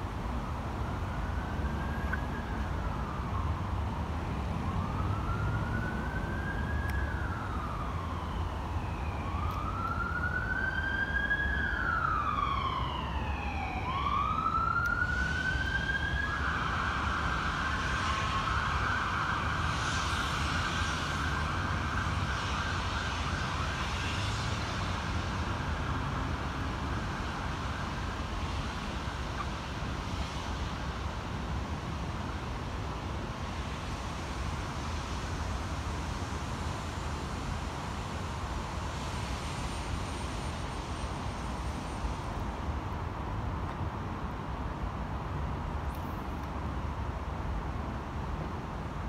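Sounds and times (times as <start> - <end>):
emergency vehicle siren: 0.3 - 42.4.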